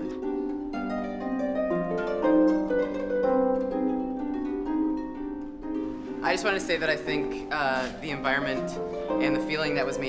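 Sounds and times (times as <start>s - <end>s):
plucked instrumental melody: 0.0s - 10.0s.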